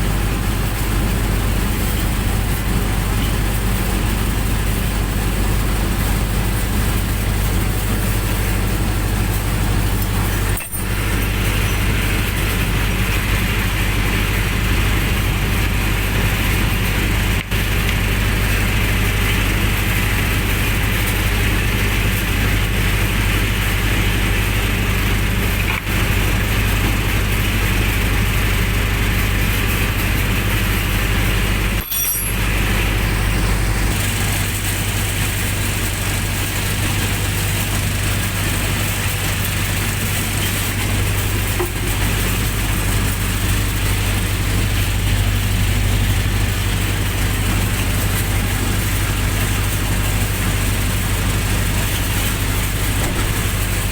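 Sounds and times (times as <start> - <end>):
generator engine running: 0.0 - 53.9.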